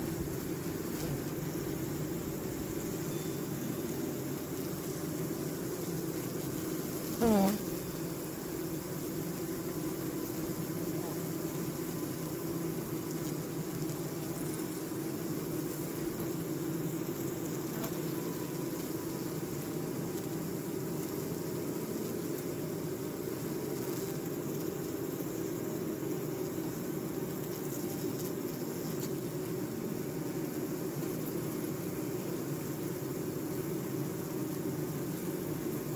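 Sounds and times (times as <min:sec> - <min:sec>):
bees humming: 0:00.0 - 0:35.9.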